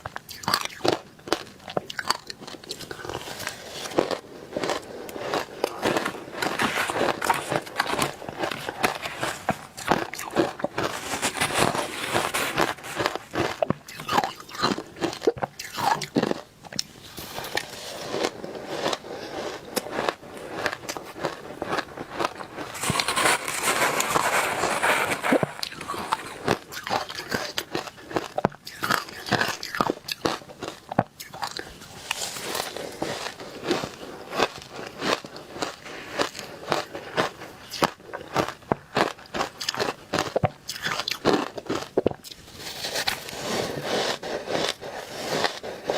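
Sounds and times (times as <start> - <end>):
chewing crunchy ice: 0.0 - 45.9.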